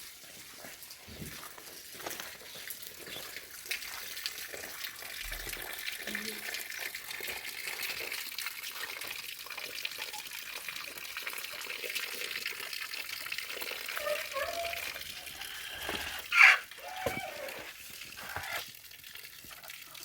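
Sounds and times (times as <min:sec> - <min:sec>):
water running and splashing: 0:00.0 - 0:20.0.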